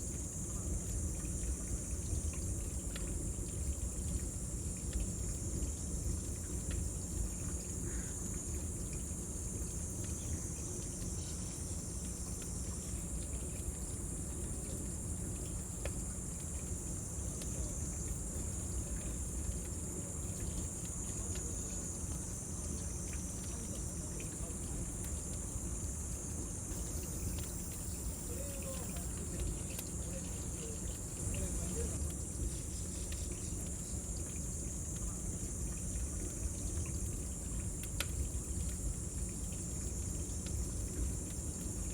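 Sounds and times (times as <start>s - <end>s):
cicadas singing: 5.7s - 16.1s, 16.7s - 41.9s.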